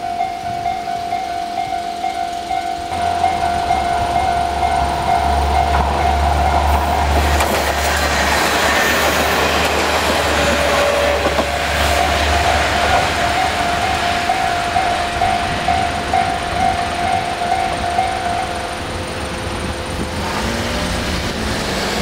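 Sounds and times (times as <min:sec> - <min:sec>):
level crossing warning bell: 0:00.0 - 0:07.3, 0:08.6 - 0:19.6
diesel railcar engine rumble: 0:00.0 - 0:22.0
train wheel noise: 0:00.0 - 0:22.0.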